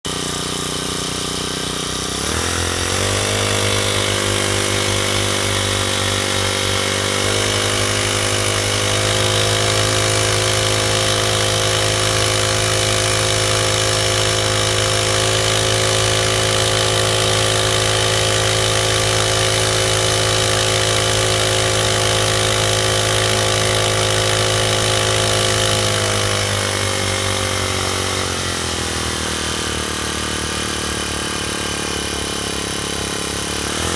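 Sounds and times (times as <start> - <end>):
small engine revving: 0.0 - 33.9.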